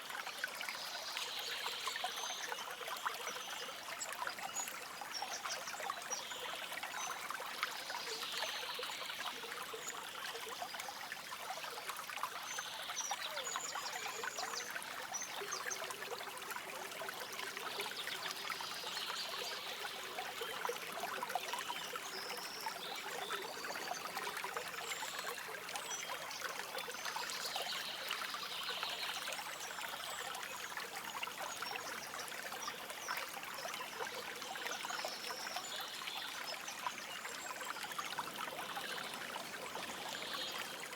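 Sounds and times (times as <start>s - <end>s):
stream trickling and babbling: 0.0s - 40.9s.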